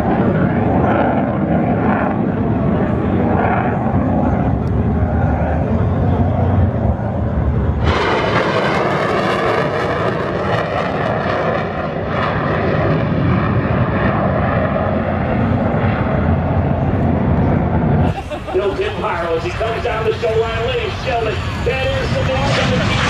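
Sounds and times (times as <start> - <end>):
jet engine roaring: 0.0 - 23.0.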